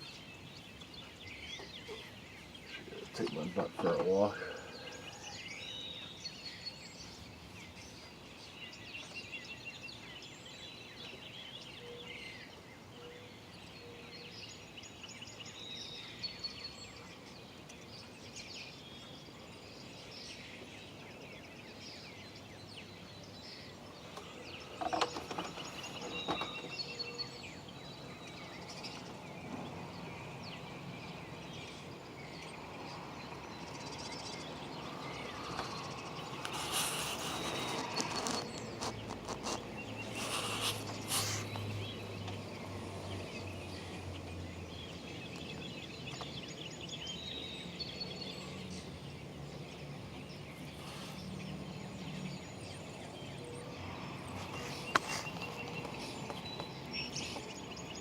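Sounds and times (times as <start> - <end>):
outdoor background noise: 0.0 - 58.0
songbirds chirping: 0.0 - 58.0.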